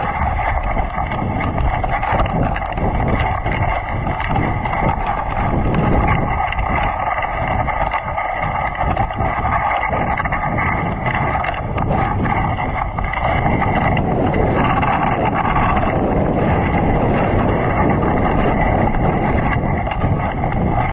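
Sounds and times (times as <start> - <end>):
sled clicking and rattling: 0.0 - 20.9
sled runners scraping snow: 0.0 - 20.9
wind buffeting microphone: 0.0 - 20.9.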